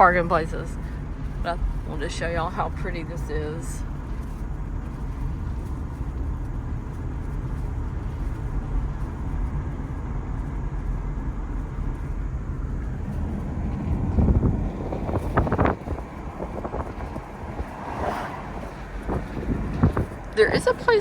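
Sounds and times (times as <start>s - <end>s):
road and engine rumble inside car: 0.0s - 21.0s.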